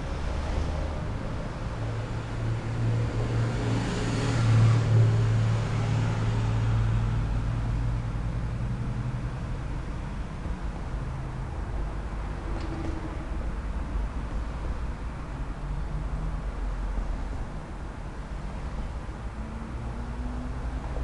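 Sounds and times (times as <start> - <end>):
traffic driving past: 0.0 - 21.0.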